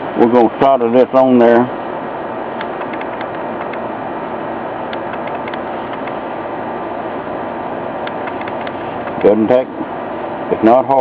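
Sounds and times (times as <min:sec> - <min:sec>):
machine-like background noise: 0:00.0 - 0:11.0.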